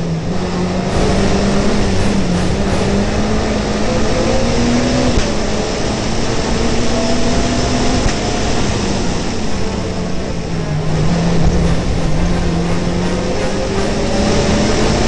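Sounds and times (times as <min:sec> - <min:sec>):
rally car engine running hard: 0:00.0 - 0:15.0
road noise: 0:00.0 - 0:15.0
wind noise: 0:00.0 - 0:15.0.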